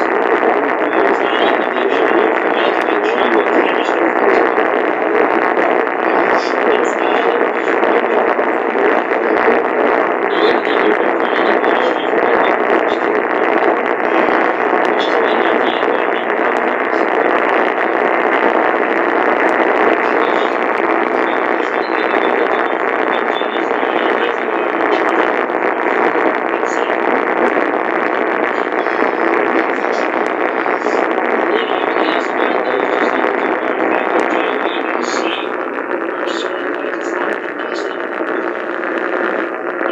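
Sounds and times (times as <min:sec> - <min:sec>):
radio static hiss with crackles: 0:00.0 - 0:39.9.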